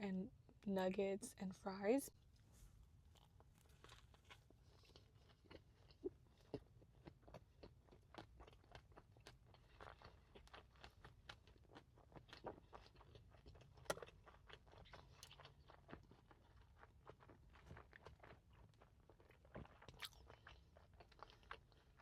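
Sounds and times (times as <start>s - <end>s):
person chewing crunchy food: 3.0s - 22.0s.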